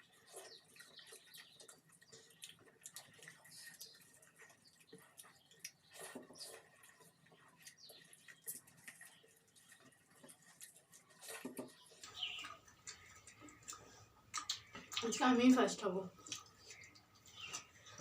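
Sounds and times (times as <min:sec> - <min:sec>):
fingers working food on a plate: 0:00.0 - 0:15.0
chewing and lip smacks: 0:00.0 - 0:18.0.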